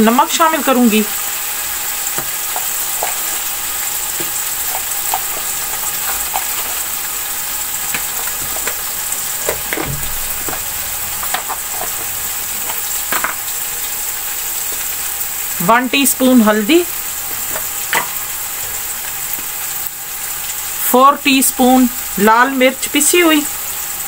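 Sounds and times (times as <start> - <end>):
onions and tomatoes sizzling in oil: 0.0 - 24.0.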